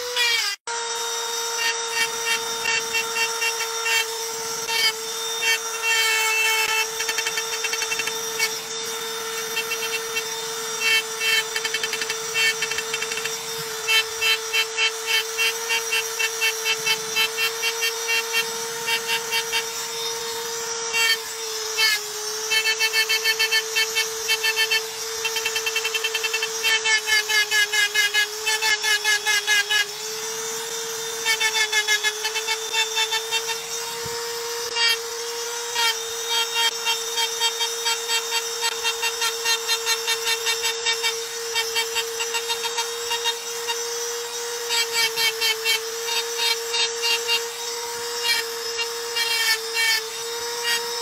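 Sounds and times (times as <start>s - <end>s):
power engraving tool whining: 0.0s - 51.0s.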